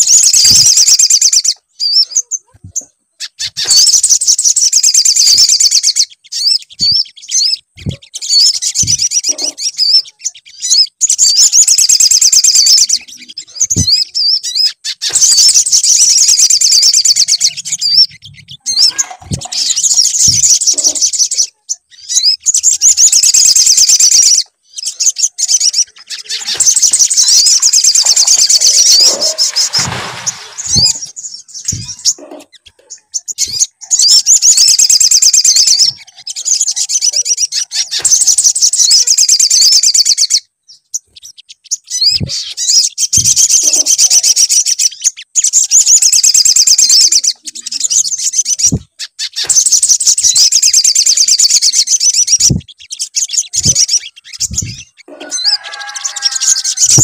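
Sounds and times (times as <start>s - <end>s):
high trilling birdsong: 0.0s - 57.0s.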